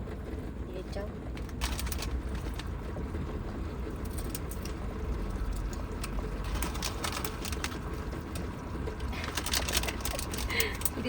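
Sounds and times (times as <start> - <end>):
rain on a van roof: 0.1 - 11.0.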